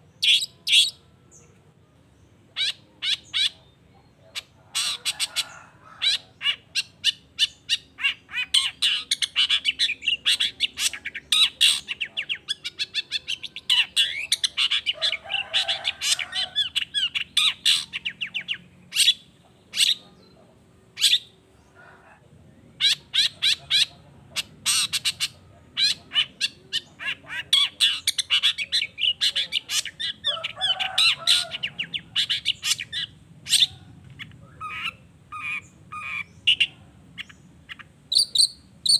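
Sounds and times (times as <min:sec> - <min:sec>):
bird chattering song: 0:00.0 - 0:21.8, 0:22.4 - 0:38.9.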